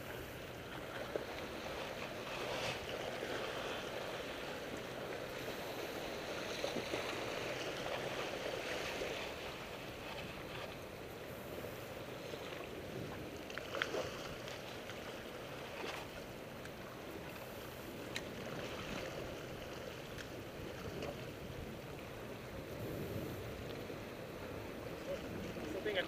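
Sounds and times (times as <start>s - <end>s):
ocean water washing: 0.0s - 26.0s
wind: 0.0s - 26.0s.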